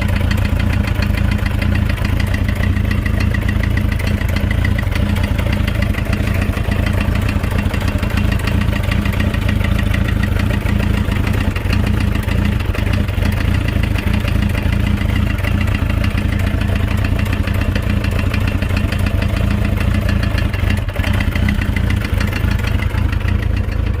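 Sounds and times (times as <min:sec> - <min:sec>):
motorcycle engine idling: 0:00.0 - 0:24.0
rapid engine knocking: 0:00.0 - 0:24.0.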